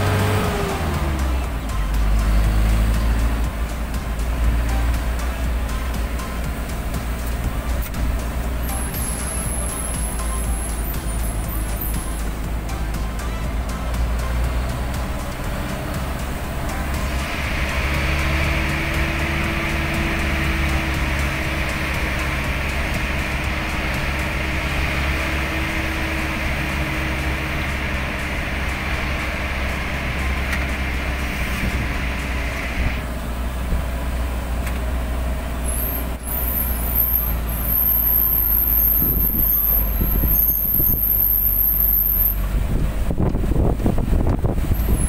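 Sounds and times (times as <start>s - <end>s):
tyres on wet road: 0.0s - 45.0s
vehicle engine rumble: 0.0s - 45.0s.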